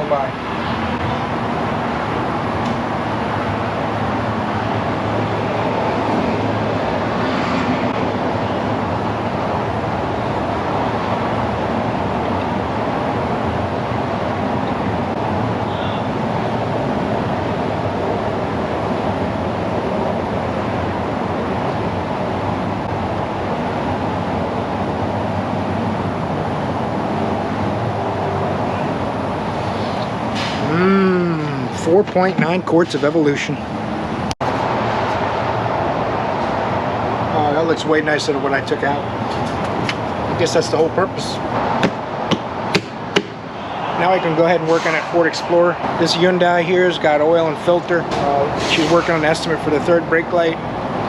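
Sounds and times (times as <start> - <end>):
highway traffic roar: 0.0 - 51.0
repair shop background noise: 0.0 - 51.0.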